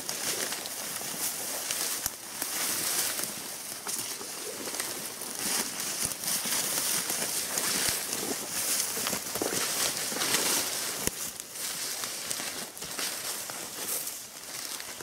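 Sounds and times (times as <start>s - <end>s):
footsteps through leaf litter: 0.0s - 15.0s.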